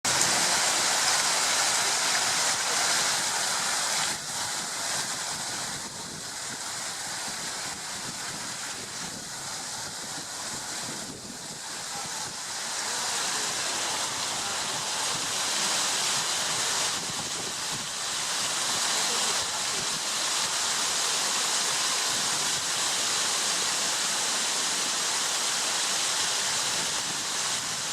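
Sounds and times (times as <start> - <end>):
stream water rushing: 0.0 - 27.9.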